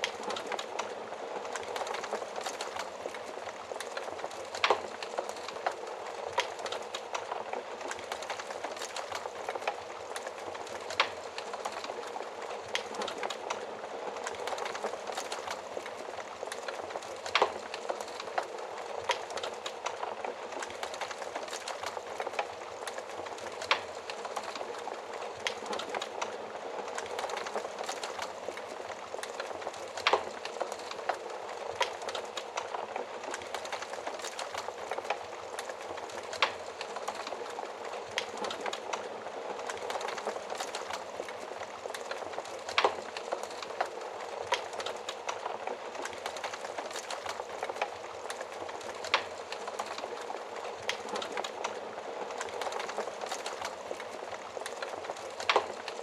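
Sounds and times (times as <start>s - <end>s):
wood fire hissing and crackling: 0.0s - 56.0s.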